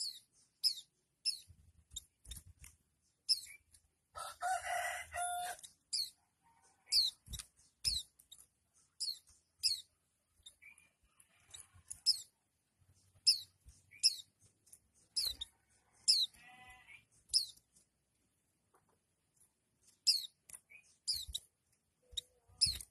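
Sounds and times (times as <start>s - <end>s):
bird high chirps: 0.0s - 2.4s, 3.0s - 3.8s, 4.4s - 17.6s, 19.9s - 22.9s.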